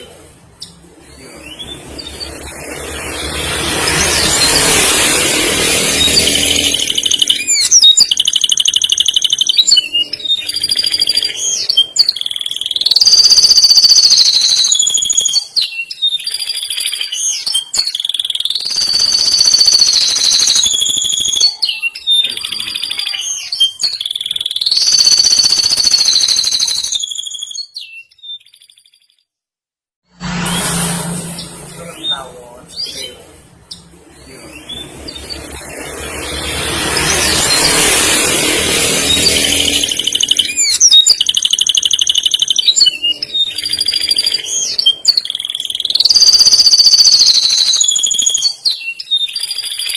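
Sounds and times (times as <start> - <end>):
canary singing trills: 0.0 - 29.2, 31.3 - 49.9.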